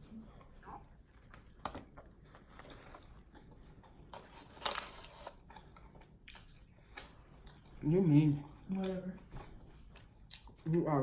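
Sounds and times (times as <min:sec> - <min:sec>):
faint chewing: 0:00.2 - 0:11.0.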